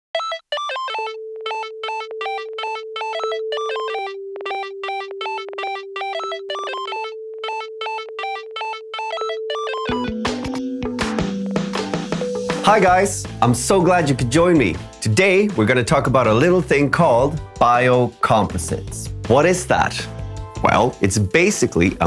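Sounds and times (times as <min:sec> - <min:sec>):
electronic background music: 0:00.7 - 0:22.0.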